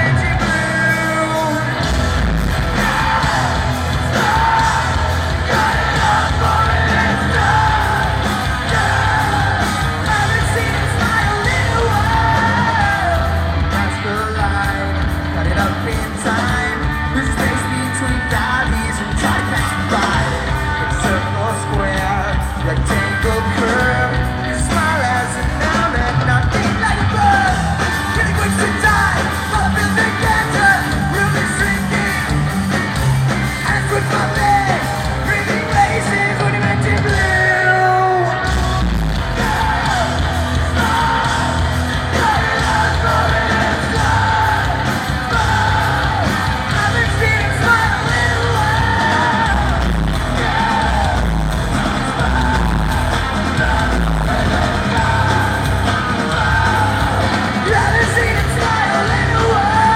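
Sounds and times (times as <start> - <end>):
live rock band playing: 0.0 - 59.9
person singing and yelling: 0.0 - 59.9.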